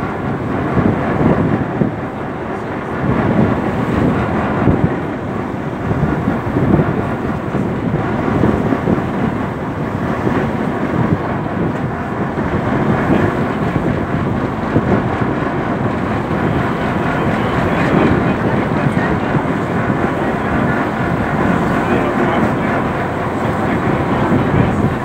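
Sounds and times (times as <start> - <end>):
boat rumble and water: 0.0 - 25.0
wind rush on microphone: 0.0 - 25.0.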